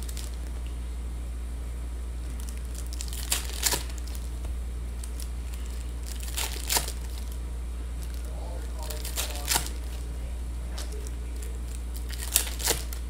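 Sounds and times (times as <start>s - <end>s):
foil wrapper crinkling and tearing: 0.0s - 0.6s, 2.2s - 7.4s, 8.0s - 13.0s
steady low hum: 0.0s - 13.0s.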